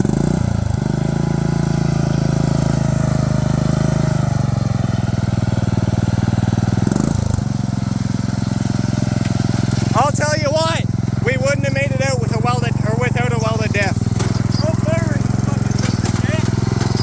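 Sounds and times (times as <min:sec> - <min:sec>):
riding mower engine at full throttle: 0:00.0 - 0:17.0.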